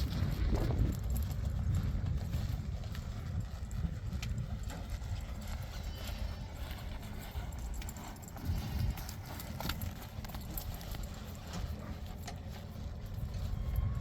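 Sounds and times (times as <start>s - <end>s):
horse hoofbeats: 0.0s - 14.0s
low rumble: 0.0s - 14.0s.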